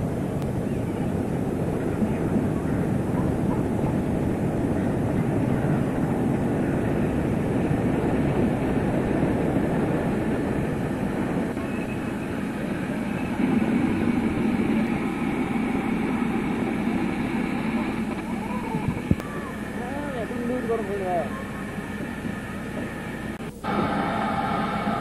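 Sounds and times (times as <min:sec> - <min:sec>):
steam locomotive rumbling on rails: 0:00.0 - 0:25.0.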